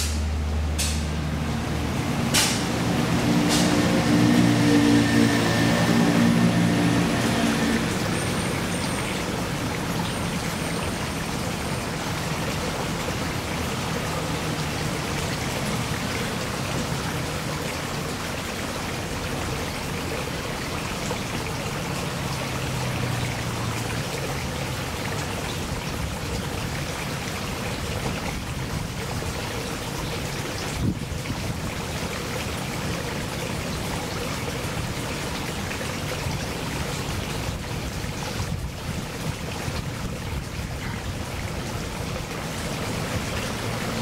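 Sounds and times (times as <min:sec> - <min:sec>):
passing traffic hum: 0:00.0 - 0:44.0
running water in a pond: 0:00.0 - 0:44.0.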